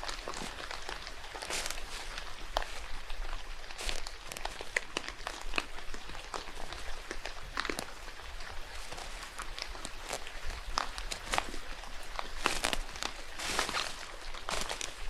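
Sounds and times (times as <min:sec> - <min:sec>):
rain hissing in a forest: 0:00.0 - 0:15.0
raindrops tapping and pattering: 0:00.0 - 0:15.0.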